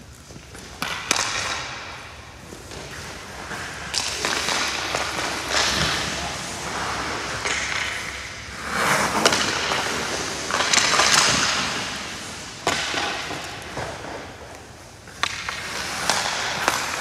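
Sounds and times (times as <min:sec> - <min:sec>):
skate blades scraping ice: 0:00.0 - 0:17.0
stick hitting puck: 0:00.2 - 0:17.0.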